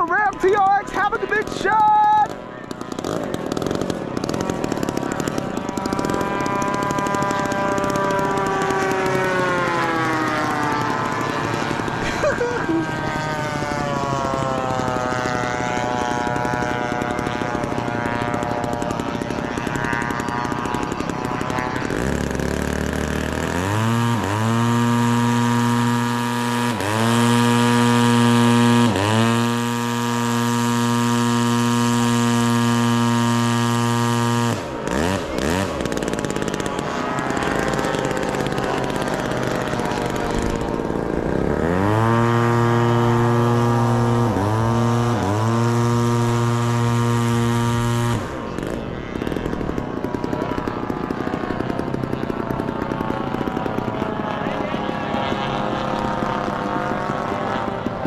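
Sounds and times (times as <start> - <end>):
engines passing by: 0.0 - 58.0
model airplane engine running: 0.0 - 58.0.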